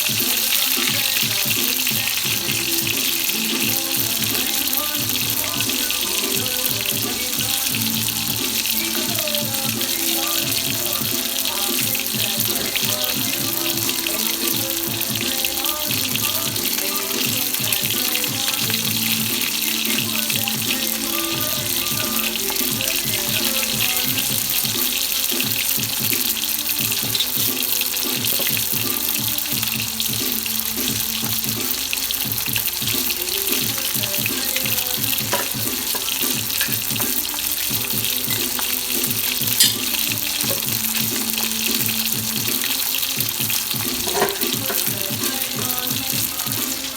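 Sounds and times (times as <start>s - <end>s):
music playing: 0.0s - 46.9s.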